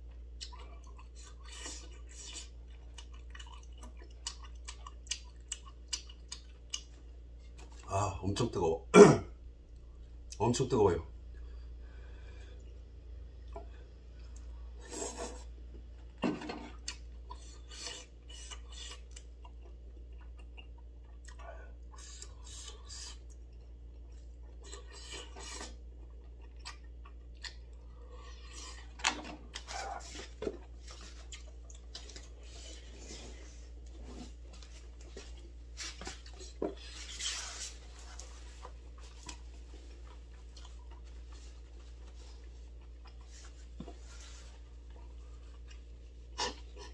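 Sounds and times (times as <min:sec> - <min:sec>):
chewing: 0:00.0 - 0:07.9, 0:12.4 - 0:46.9
steady low hum: 0:00.0 - 0:46.9.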